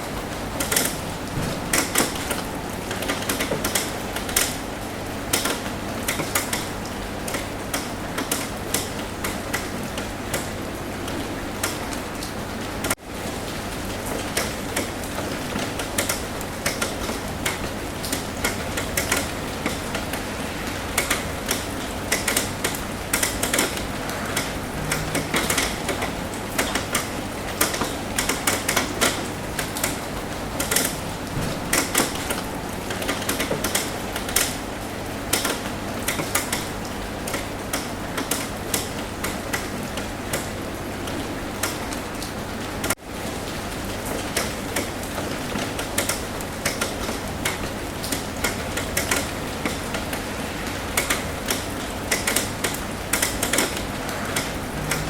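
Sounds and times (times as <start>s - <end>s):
rain tapping on a roof: 0.0s - 55.0s.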